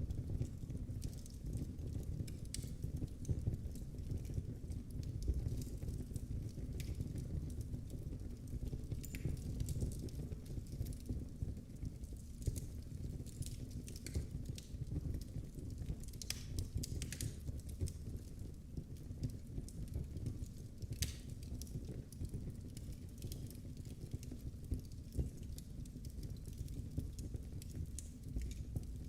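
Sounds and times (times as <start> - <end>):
low rumble of flames: 0.0 - 29.0
wood fire crackling and popping: 0.0 - 29.0.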